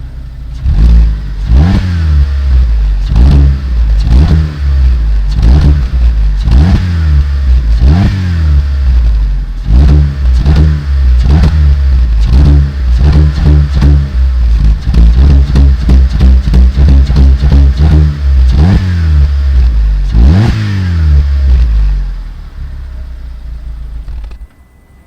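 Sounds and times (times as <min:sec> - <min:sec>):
car engine revving: 0:00.0 - 0:24.5.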